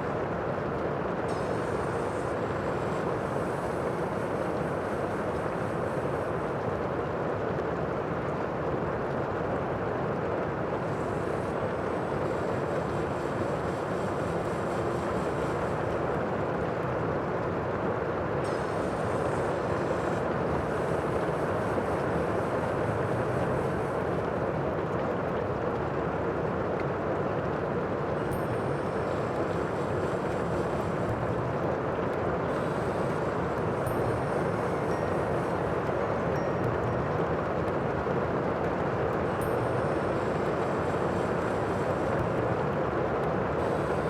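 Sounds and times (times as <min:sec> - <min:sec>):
wind: 0:00.0 - 0:44.0.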